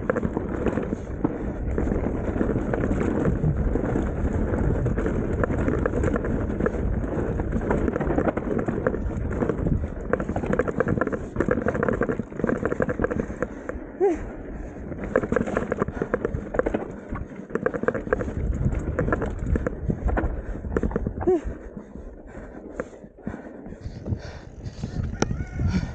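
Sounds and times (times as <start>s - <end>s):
tyre and wind rush: 0.0s - 12.5s, 13.2s - 22.2s, 23.3s - 25.9s
bike clicks and rattles: 0.0s - 25.9s.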